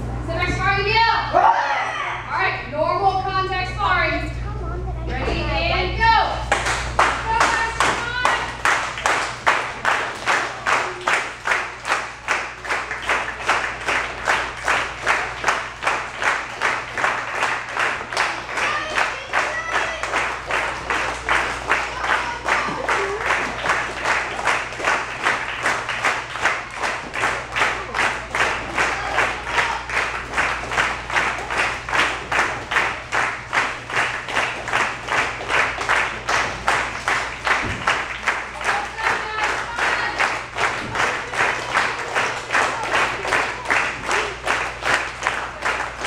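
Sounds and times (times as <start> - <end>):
low steady hum: 0.0 - 46.0
crowd clapping in unison: 6.4 - 46.0.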